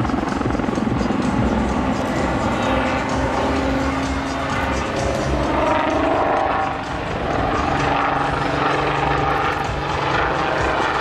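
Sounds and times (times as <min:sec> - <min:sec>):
helicopters flying overhead: 0:00.0 - 0:11.0.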